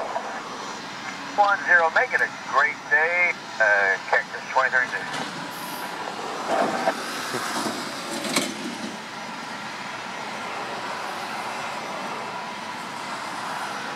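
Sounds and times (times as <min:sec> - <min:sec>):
faint engine whine: 0:00.0 - 0:13.9
jet engines rushing: 0:00.0 - 0:13.9.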